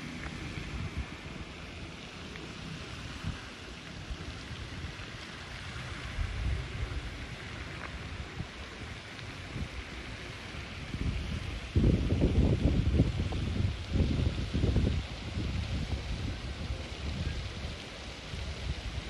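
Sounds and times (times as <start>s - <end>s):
wind buffeting microphone: 0.0s - 2.0s, 2.8s - 19.0s
steady rushing outdoor noise: 0.0s - 19.0s.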